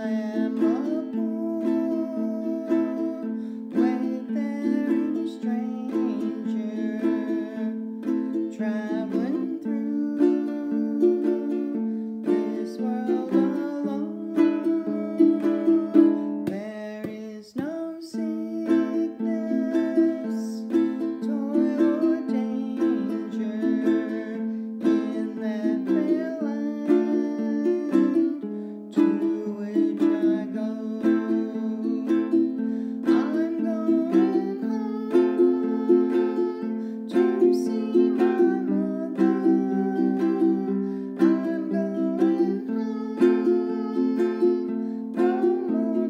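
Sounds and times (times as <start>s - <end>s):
ukulele strumming: 0.0s - 46.0s.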